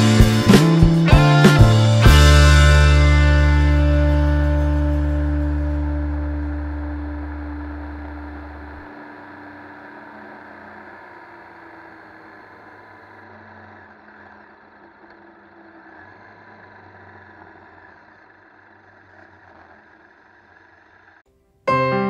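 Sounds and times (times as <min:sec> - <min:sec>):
motorcycle engine running: 0:00.0 - 0:21.3.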